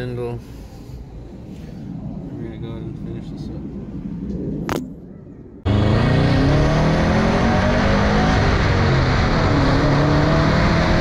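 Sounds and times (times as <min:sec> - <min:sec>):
road noise: 0:00.0 - 0:11.0
wind rushing: 0:00.7 - 0:09.9.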